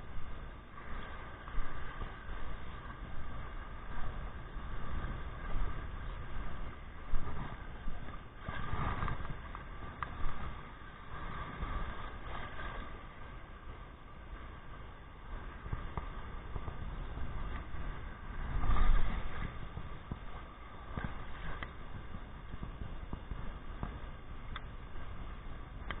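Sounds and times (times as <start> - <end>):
shallow surf surging: 0.0 - 26.0
wind rumble: 0.0 - 26.0.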